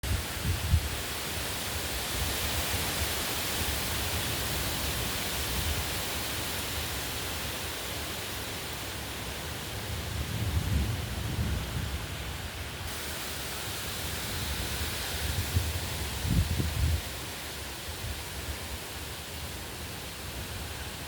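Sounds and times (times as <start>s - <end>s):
wind hissing: 0.0s - 21.0s.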